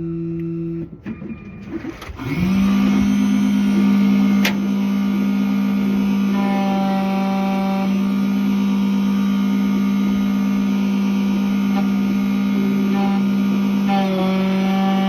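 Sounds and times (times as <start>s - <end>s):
key-cutting machine motor hum: 0.0s - 15.0s.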